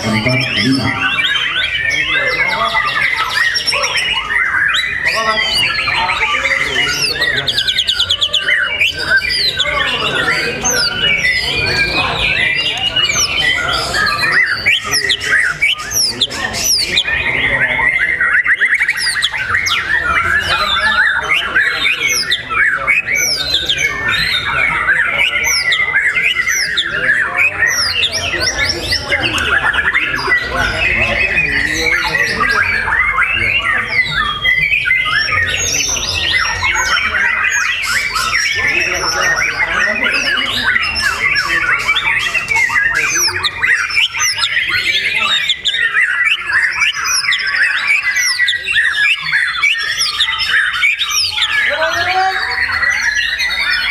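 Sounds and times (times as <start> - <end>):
bird chirping and squawking: 0.0 - 53.9
songbird singing: 0.0 - 53.9.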